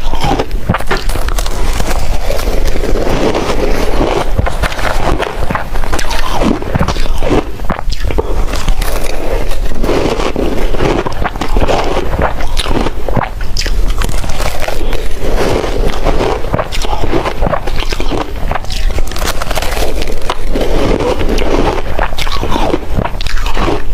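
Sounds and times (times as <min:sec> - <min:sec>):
person chewing ice crunching: 0:00.0 - 0:23.9.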